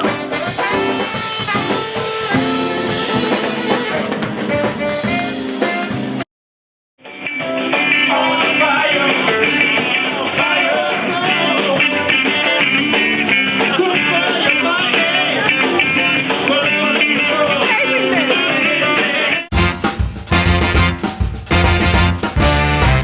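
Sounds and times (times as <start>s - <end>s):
band music with guitar: 0.0s - 6.3s, 7.0s - 23.0s.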